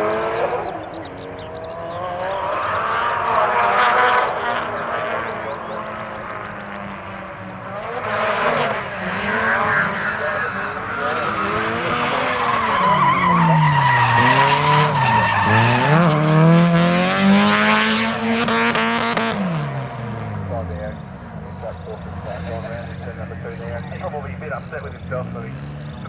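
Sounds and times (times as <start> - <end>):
tyres squealing and skidding: 0.0 - 8.0, 9.0 - 16.6, 19.4 - 26.0
car engine revving hard: 0.0 - 26.0.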